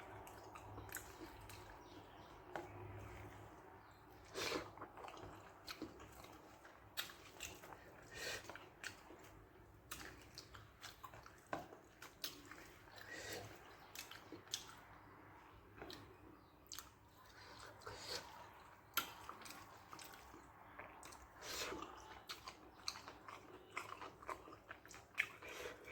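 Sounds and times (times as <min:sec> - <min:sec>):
person chewing with wet smacks: 0:00.0 - 0:25.9.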